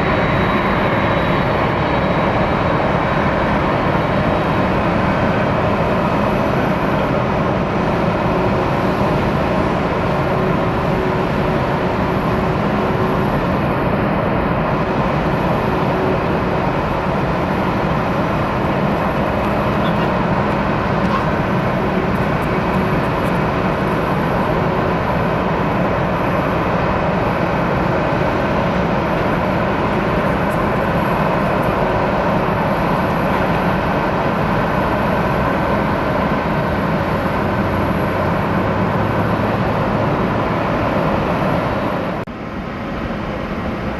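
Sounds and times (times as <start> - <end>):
jet engines idling: 0.0 - 43.9.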